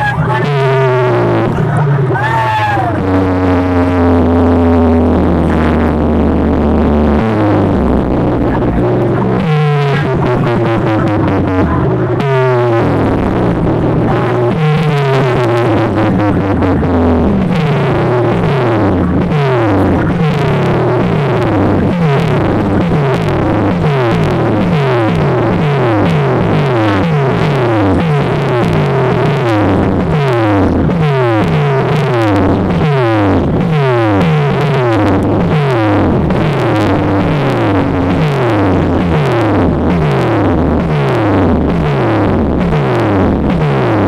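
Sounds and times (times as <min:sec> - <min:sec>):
electronic dance music: 0:00.0 - 0:44.0.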